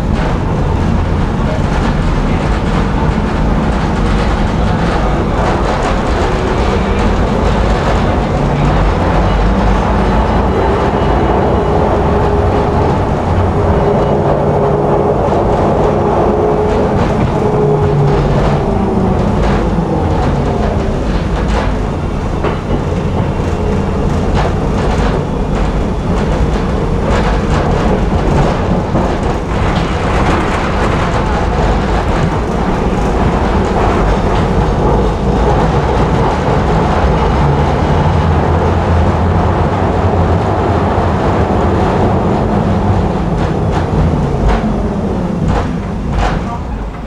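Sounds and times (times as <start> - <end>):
clicks from rail joints: 0.0 - 47.0
tram wheels rumbling on rails: 0.0 - 47.0.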